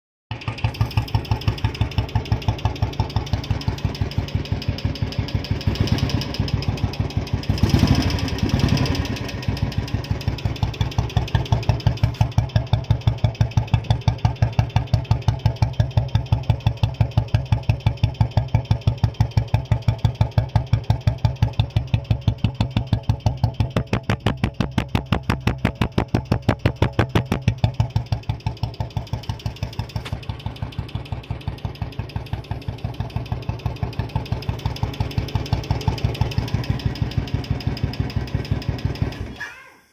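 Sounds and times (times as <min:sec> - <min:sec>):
motorcycle engine thumping idle: 0:00.3 - 0:39.3.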